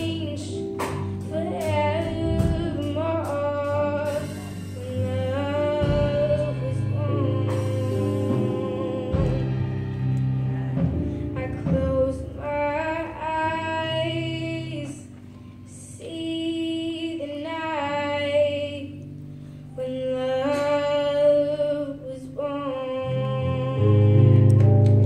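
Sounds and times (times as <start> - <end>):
girl singing into microphone: 0.0 - 9.6, 11.3 - 25.0
instrumental accompaniment: 0.0 - 25.0.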